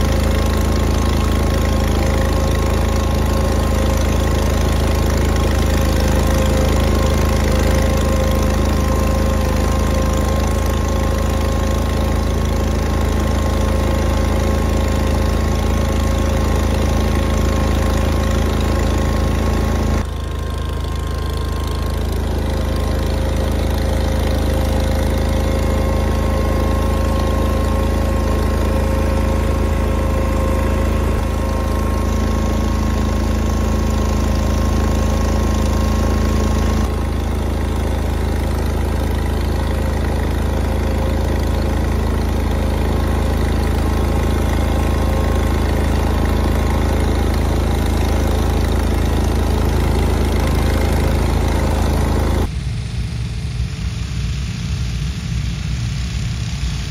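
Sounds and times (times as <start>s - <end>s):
garden tractor engine running: 0.0s - 52.5s.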